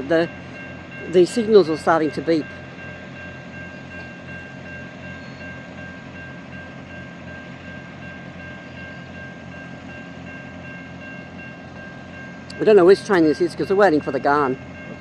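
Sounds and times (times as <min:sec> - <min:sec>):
level crossing bell ringing: 0:00.0 - 0:15.0
train engine rumble: 0:00.0 - 0:15.0.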